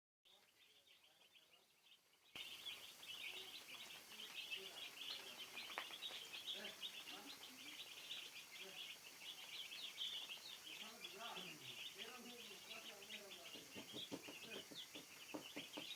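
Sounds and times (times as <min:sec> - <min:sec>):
chickens peeping: 0:00.3 - 0:15.9.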